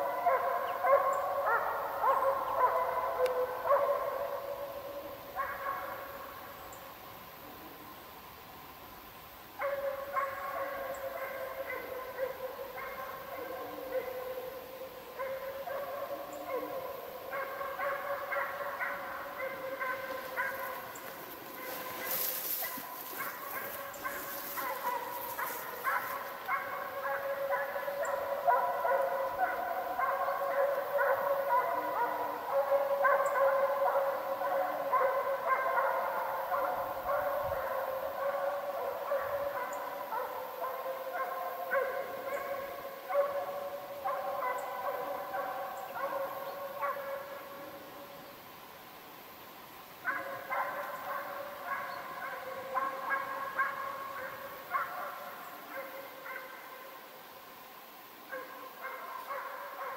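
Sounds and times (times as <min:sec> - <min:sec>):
hounds baying: 0:00.0 - 0:06.2, 0:09.6 - 0:47.9, 0:50.1 - 0:56.8, 0:58.3 - 0:59.9.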